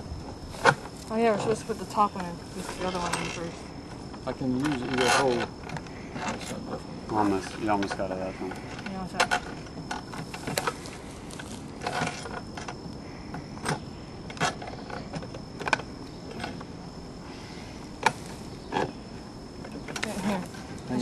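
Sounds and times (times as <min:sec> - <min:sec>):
faint high whine: 0:00.0 - 0:21.0.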